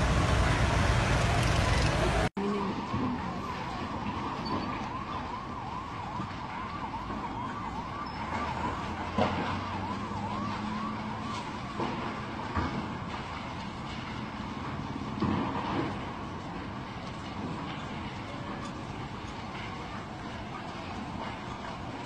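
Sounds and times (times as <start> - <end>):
distant emergency vehicle siren: 0.0 - 22.0
noisy street din: 0.0 - 22.0.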